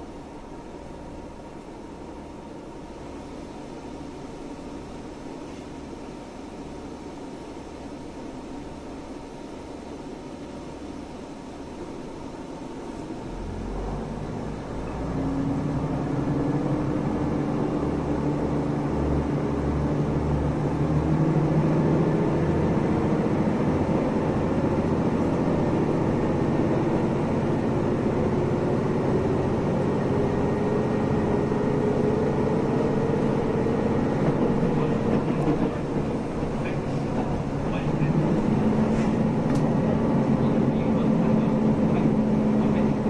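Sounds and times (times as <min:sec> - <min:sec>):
train accelerating from inside: 0:00.0 - 0:43.0.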